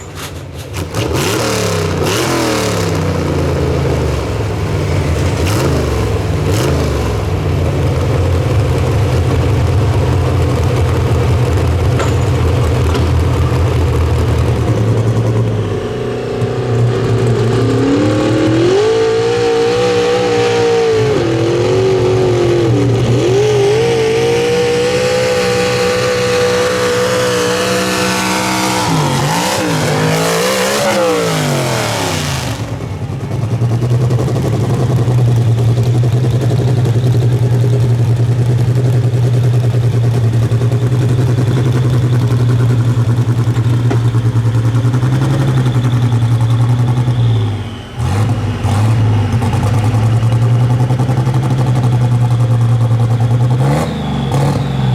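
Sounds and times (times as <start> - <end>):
engine running at low pitch: 0.0 - 54.9
truck engine at high revs: 0.0 - 54.9.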